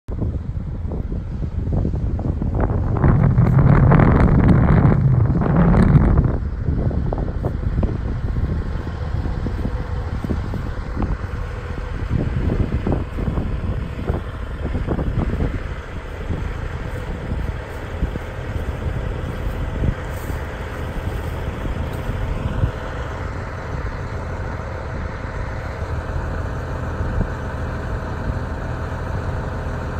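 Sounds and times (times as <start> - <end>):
wind buffeting microphone: 0.1 - 29.9
diesel truck idling: 0.2 - 29.9.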